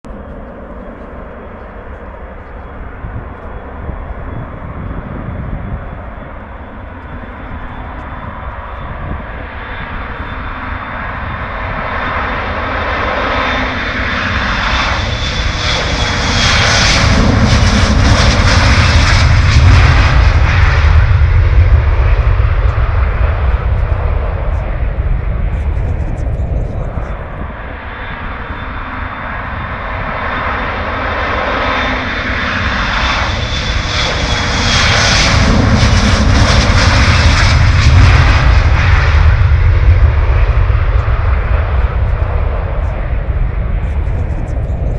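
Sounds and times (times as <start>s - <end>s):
airplane engine roar: 0.0s - 44.9s.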